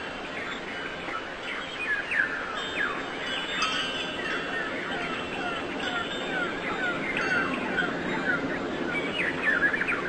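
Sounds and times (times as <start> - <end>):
small songbirds chirping: 0.0 - 10.0
steady background hiss: 0.0 - 10.0.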